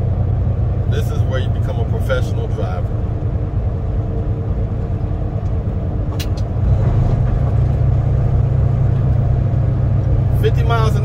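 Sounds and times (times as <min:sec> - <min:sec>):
truck engine rumble: 0:00.0 - 0:11.0.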